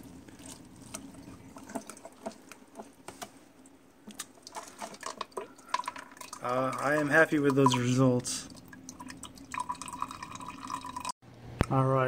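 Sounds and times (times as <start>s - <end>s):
water dripping: 0.3s - 11.2s.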